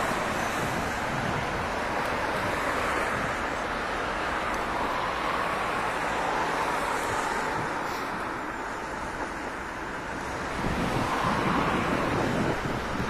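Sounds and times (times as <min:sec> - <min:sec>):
car traffic: 0:00.0 - 0:13.0
wind rushing over microphone: 0:00.0 - 0:13.0.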